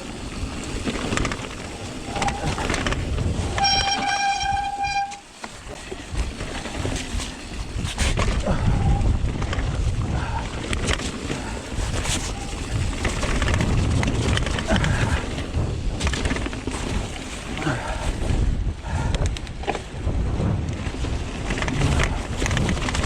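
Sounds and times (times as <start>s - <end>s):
bike rattling on rough trail: 0.0s - 23.0s
wind buffeting microphone: 0.0s - 23.0s.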